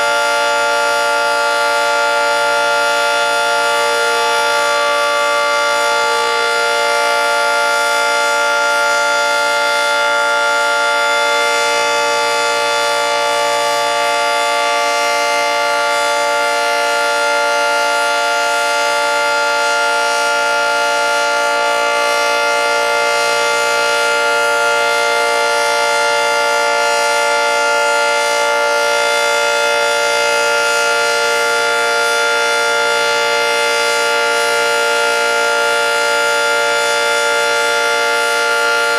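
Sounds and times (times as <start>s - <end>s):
dual-tone warning siren: 0.0s - 38.9s.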